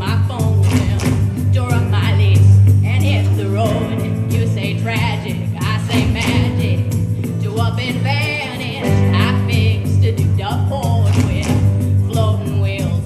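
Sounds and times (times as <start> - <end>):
bass-heavy accompaniment: 0.0 - 13.0.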